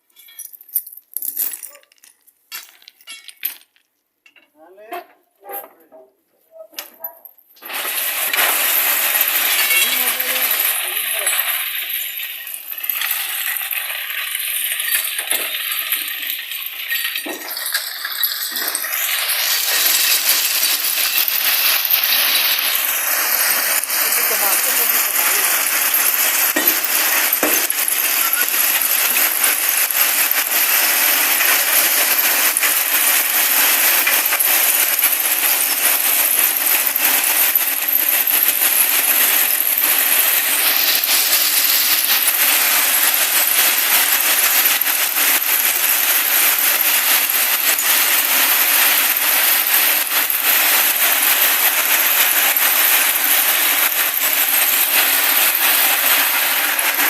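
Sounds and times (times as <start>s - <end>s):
stones pouring and rattling: 0.0s - 3.9s, 7.6s - 57.0s.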